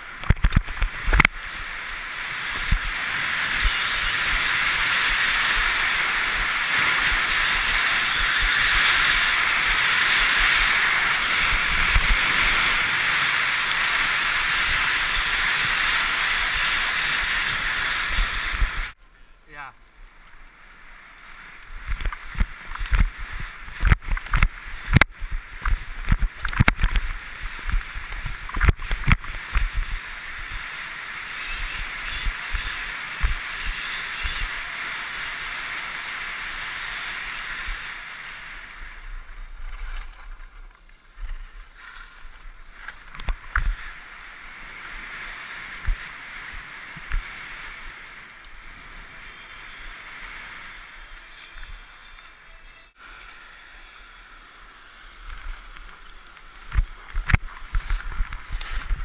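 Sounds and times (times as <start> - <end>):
skis scraping over snow: 0.0 - 19.0, 20.7 - 59.0.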